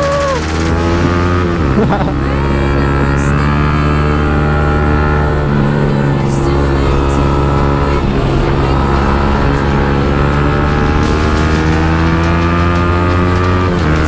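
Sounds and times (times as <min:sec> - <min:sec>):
motorcycle engine accelerating: 0:00.4 - 0:14.0.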